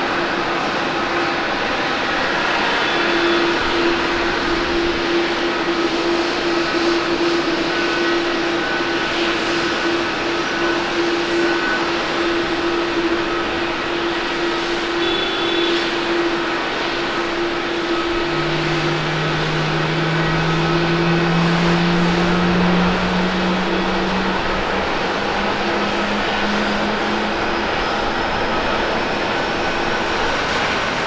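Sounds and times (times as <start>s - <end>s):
jet engines rolling on runway: 0.0s - 31.0s
low hum rising in pitch: 2.7s - 30.7s.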